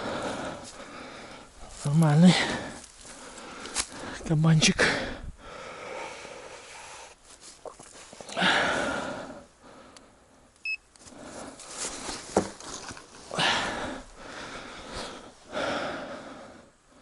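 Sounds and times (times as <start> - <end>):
person breathing heavily: 0.0 - 7.2, 8.2 - 12.2, 13.3 - 17.0.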